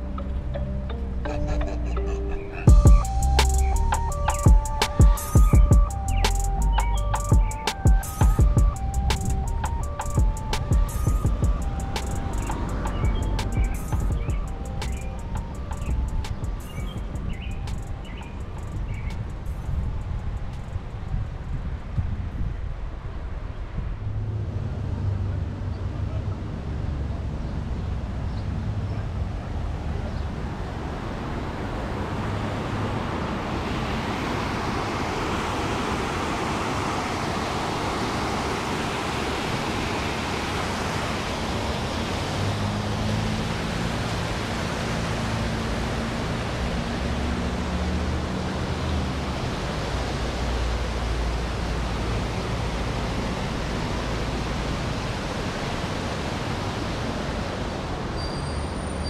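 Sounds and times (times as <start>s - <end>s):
passing traffic engine hum: 0.0s - 21.0s, 23.3s - 59.0s
road noise: 0.0s - 59.0s.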